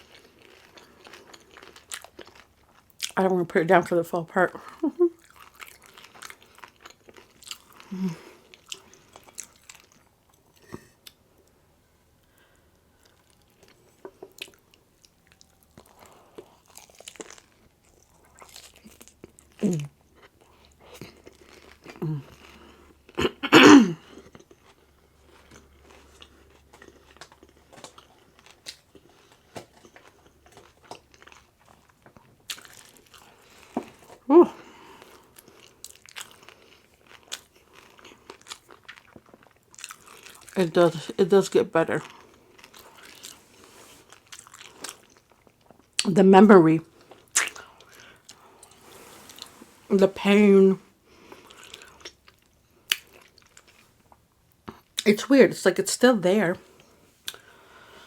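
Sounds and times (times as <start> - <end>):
person chewing crunchy tacos: 0.0 - 3.2, 4.5 - 46.1, 46.8 - 49.9, 50.9 - 55.1, 56.6 - 58.0.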